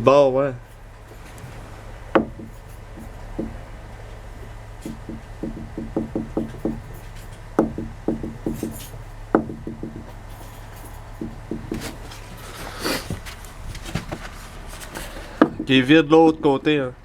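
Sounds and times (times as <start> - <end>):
suspension clunking knocks: 0.0 - 17.0.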